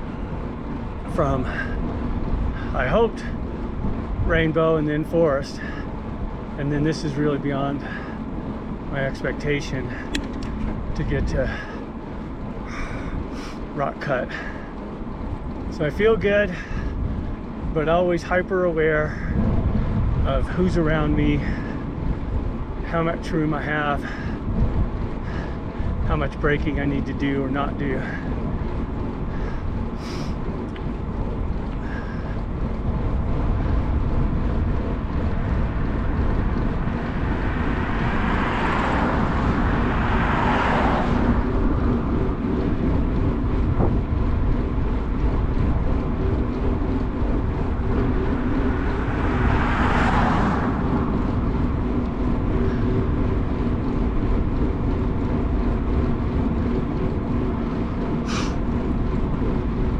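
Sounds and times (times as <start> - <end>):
bike tyres rolling on pavement: 0.0 - 59.9
wind rushing on microphone: 0.0 - 59.9.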